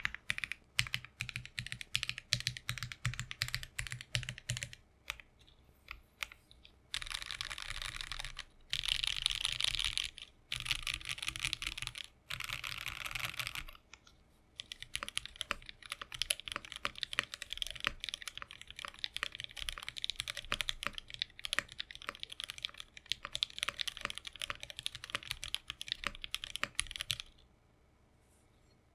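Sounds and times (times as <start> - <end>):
mechanical keyboard typing: 0.0 - 5.3, 5.9 - 13.8, 14.6 - 27.3.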